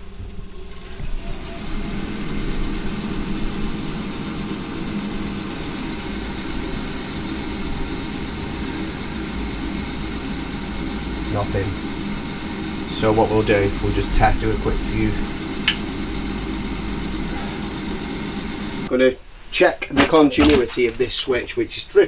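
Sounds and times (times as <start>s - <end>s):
boiler fan humming: 0.0s - 22.0s.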